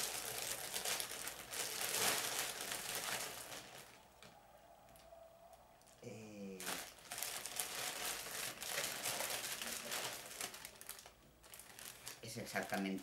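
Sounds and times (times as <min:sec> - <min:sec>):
plastic packaging crinkling: 0:00.0 - 0:04.3, 0:06.6 - 0:13.0.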